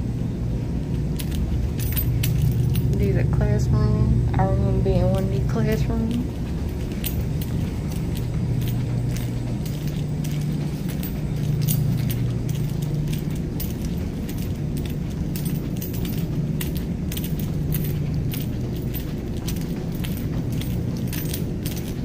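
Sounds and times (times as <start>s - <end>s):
steady low rumble: 0.0s - 22.0s
small metal items jingling: 1.2s - 3.2s, 5.1s - 22.0s.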